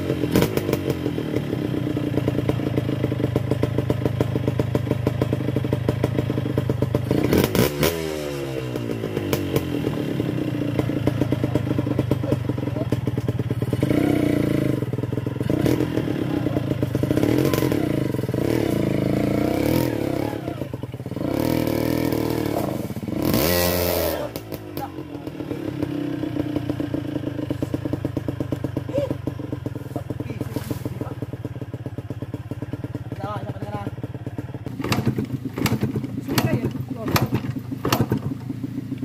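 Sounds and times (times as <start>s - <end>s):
dirt bike engine revving: 0.0s - 34.0s, 34.6s - 39.0s.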